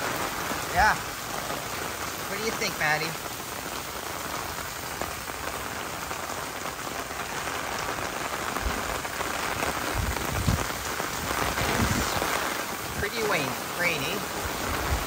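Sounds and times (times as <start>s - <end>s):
heavy rain on an umbrella: 0.0s - 15.0s.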